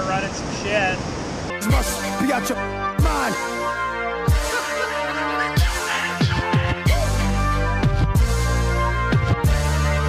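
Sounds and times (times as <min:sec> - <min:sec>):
electronic music with heavy bass: 0:01.5 - 0:10.0.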